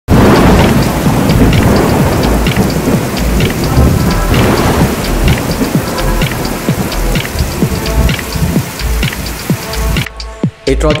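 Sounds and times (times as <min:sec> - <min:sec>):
thunder rumbling: 0:00.1 - 0:10.1
heavy rain pouring: 0:00.1 - 0:10.2.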